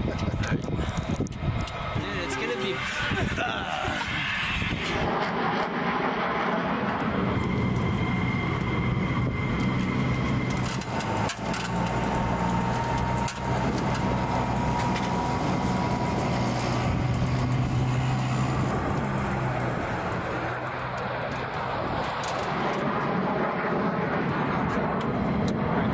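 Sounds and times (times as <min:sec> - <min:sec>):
jet turbine rumble and whine: 0:00.0 - 0:25.9.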